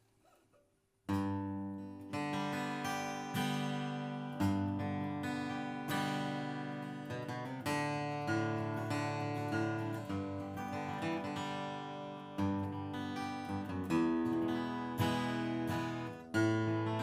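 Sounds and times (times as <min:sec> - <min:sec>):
acoustic guitar strummed chords: 0:01.1 - 0:17.0.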